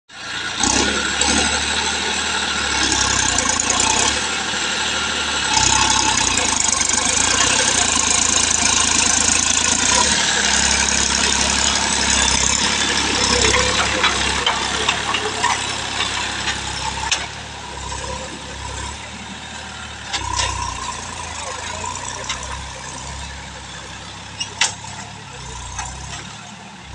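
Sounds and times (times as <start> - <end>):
tractor diesel engine under load: 0.1 - 26.9.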